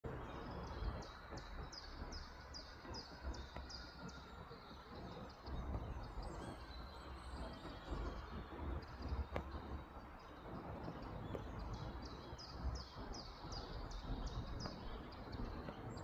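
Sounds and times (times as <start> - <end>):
steady low rumble: 0.1 - 16.0.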